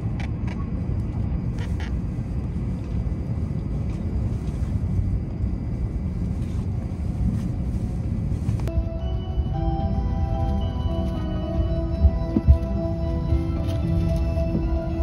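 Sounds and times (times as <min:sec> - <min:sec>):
train cabin rumble: 0:00.0 - 0:15.0.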